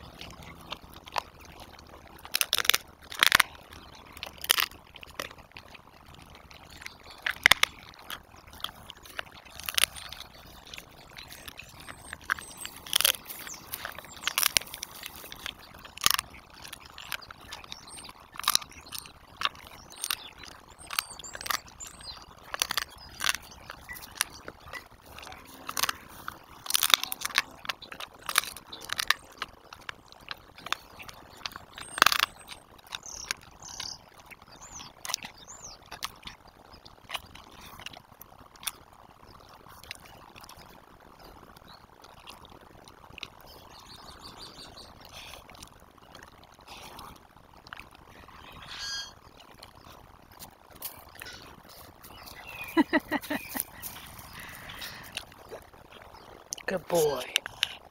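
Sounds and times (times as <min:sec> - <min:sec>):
dog crunching a chicken foot: 0:00.0 - 0:57.9.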